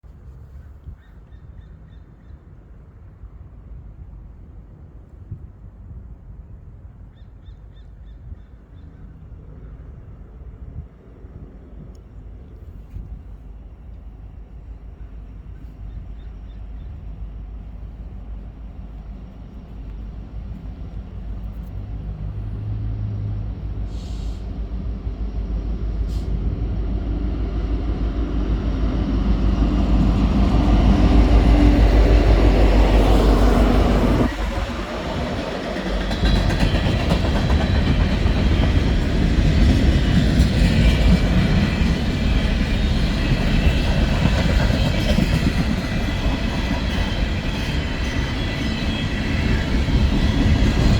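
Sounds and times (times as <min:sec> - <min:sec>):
freight train passing: 0:09.0 - 0:50.9.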